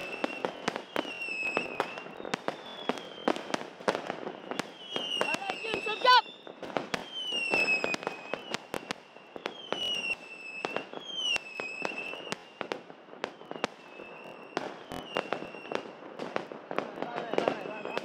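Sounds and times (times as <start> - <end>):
fireworks bangs and pops: 0.0 - 18.0
fireworks whistling: 0.0 - 18.0.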